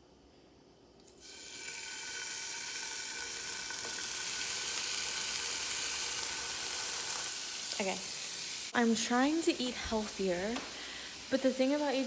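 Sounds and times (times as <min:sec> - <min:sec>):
food sizzling in frying pan: 0:01.2 - 0:12.0.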